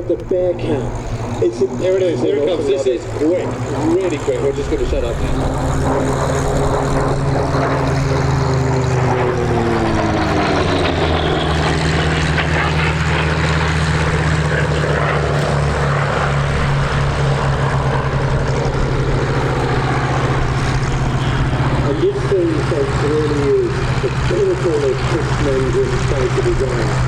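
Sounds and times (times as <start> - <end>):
loud propeller drone: 0.0 - 27.0
radial aircraft engine passing: 0.0 - 27.0.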